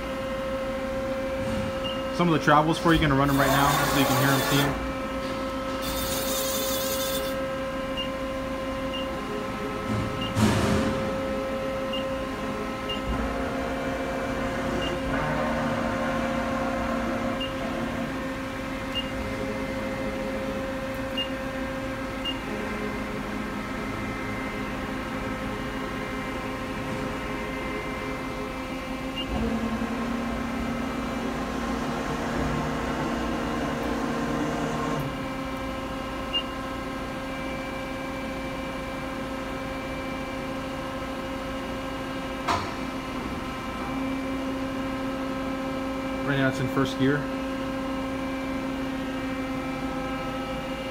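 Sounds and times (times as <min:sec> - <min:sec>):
lathe mechanical hum and whine: 0:00.0 - 0:50.9.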